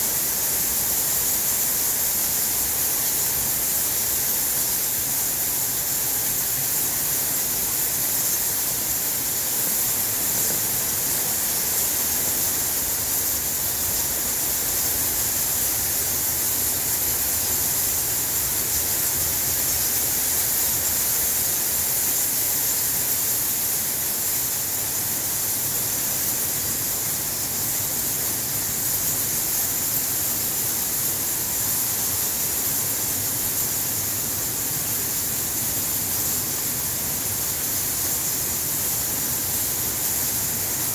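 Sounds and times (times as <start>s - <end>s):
bats calling in a high hiss: 0.0s - 40.9s.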